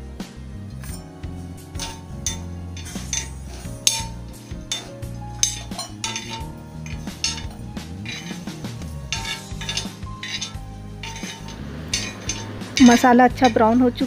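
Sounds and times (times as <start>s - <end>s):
metal spoon scraping a pan: 0.8s - 14.0s.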